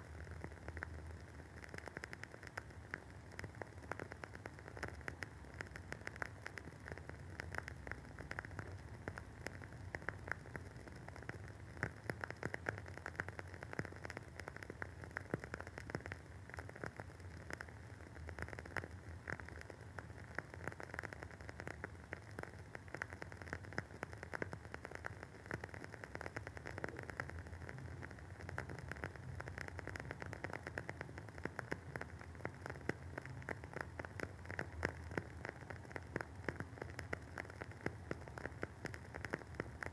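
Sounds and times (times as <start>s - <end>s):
candle wick crackling: 0.1s - 39.9s.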